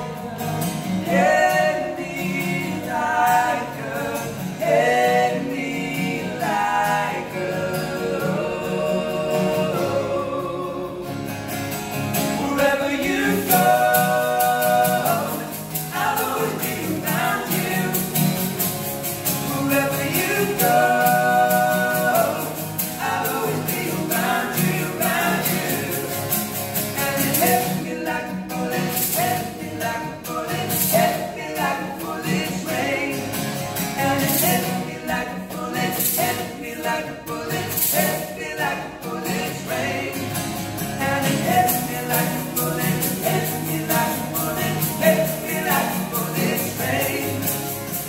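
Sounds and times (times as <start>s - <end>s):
men singing pop ballad: 0.0s - 11.4s, 12.2s - 48.0s
strummed acoustic guitars: 0.0s - 48.0s.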